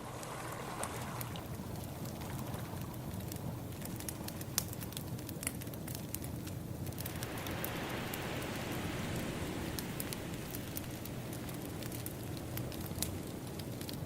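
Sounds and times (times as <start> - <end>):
wave washing in: 0.0 - 4.6, 6.9 - 14.0
crackling wood fire: 0.0 - 14.0.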